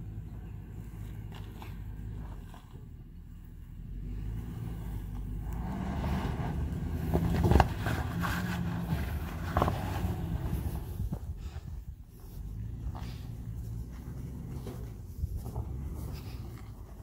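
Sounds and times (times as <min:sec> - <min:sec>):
engine pulling under load: 0:00.0 - 0:17.0.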